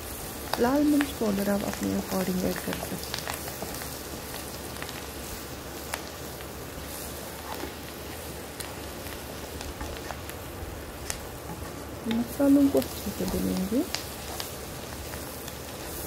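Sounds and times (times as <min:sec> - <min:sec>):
cabbage sizzling in oil: 0:00.0 - 0:16.0.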